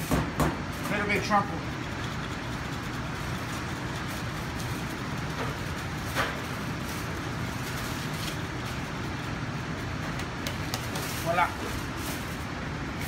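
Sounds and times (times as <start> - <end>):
kitchen rumble and hiss: 0.0 - 13.0.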